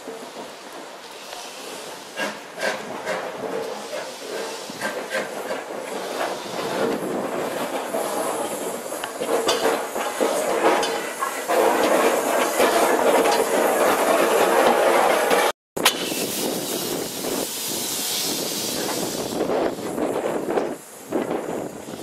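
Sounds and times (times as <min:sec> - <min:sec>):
steam locomotive running past: 0:00.0 - 0:22.0
wheels clanking on rails: 0:00.0 - 0:22.0
steam hissing: 0:00.1 - 0:22.0.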